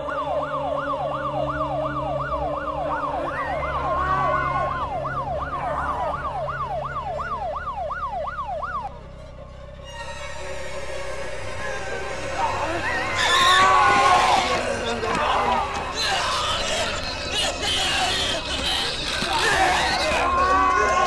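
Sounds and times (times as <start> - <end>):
fast yelping siren: 0.0 - 8.9, 11.8 - 21.0.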